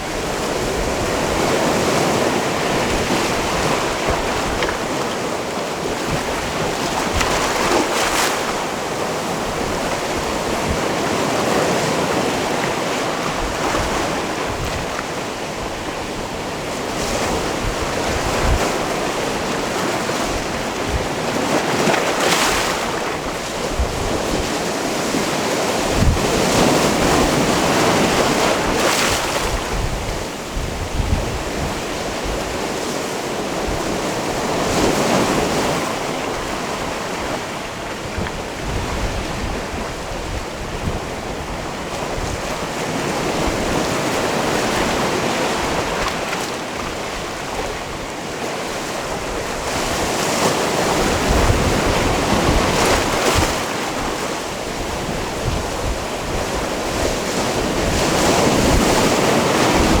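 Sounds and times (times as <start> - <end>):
waves washing onto rocky shore: 0.0 - 60.0.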